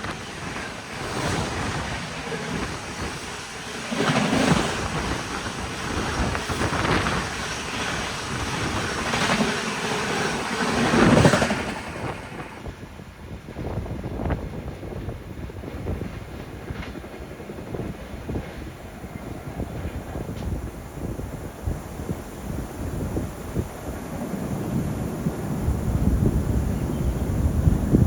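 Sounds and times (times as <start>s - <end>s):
train coaches rushing past: 0.0s - 28.0s
wind buffeting microphone: 0.0s - 28.0s.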